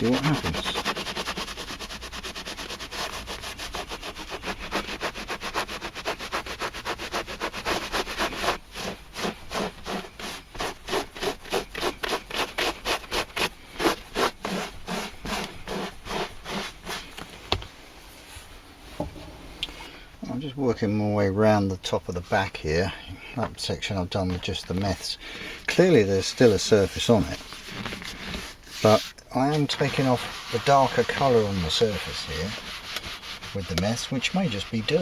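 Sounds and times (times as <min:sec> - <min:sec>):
cloth rubbing on leather: 0:00.0 - 0:19.9, 0:25.7 - 0:35.0.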